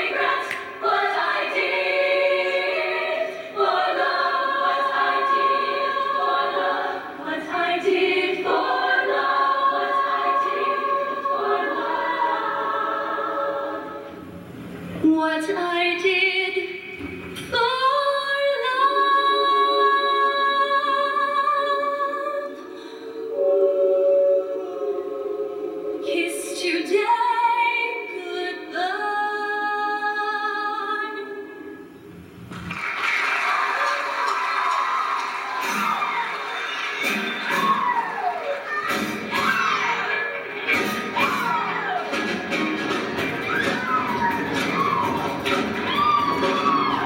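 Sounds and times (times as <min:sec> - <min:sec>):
female choir singing in harmony: 0:00.0 - 0:14.3, 0:17.5 - 0:32.0, 0:37.1 - 0:42.6, 0:43.2 - 0:47.0.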